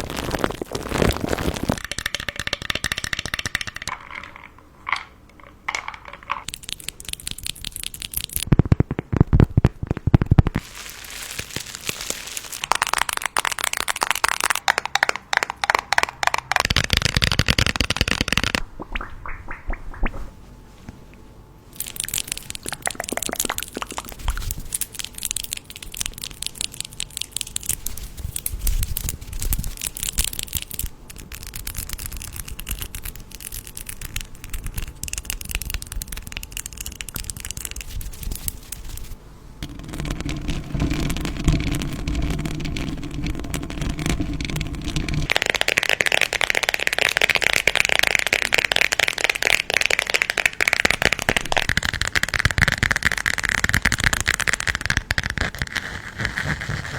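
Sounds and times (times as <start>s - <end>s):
wrapping crinkling: 0.0s - 1.8s, 6.4s - 18.6s, 21.8s - 39.2s, 40.6s - 56.9s.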